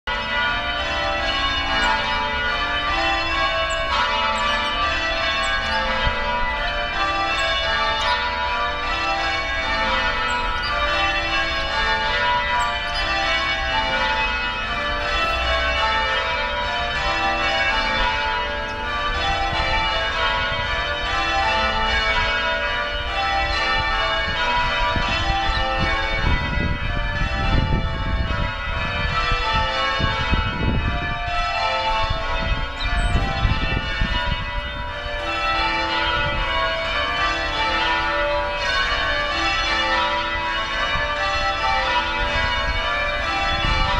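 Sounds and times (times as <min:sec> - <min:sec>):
tower bells ringing: 0:00.1 - 0:43.9.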